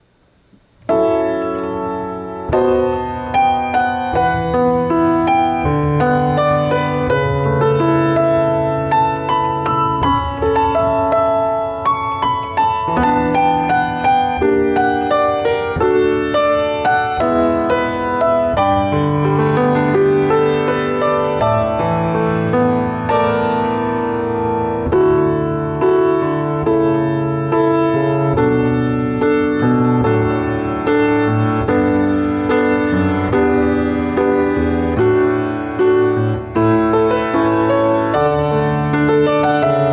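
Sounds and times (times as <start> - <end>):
slow piano piece: 0.0 - 39.9.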